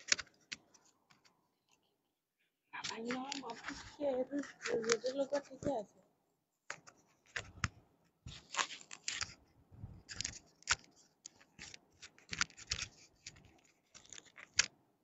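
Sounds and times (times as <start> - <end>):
rustling and crackling of handling: 0.0 - 1.9, 2.7 - 14.8.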